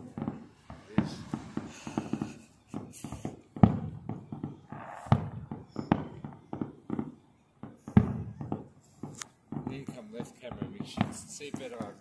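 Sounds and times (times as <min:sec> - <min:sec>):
distant fireworks bangs and pops: 0:00.0 - 0:12.0.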